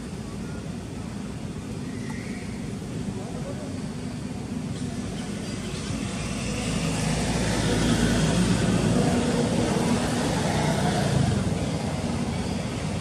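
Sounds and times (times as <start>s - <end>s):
vehicle engine humming: 2.5s - 13.0s.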